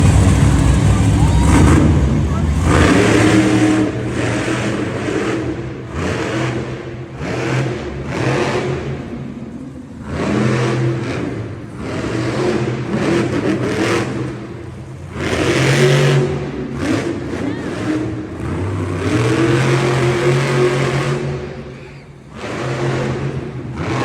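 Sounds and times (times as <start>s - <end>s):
vehicle engines revving: 0.0s - 24.0s.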